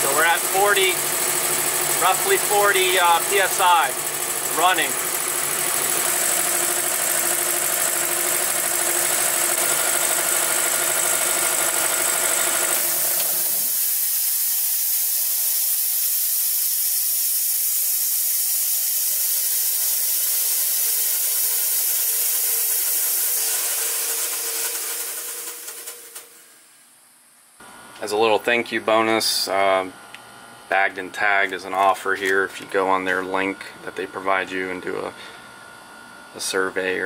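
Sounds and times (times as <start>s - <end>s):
air compressor running: 0.0s - 26.7s, 29.4s - 37.0s.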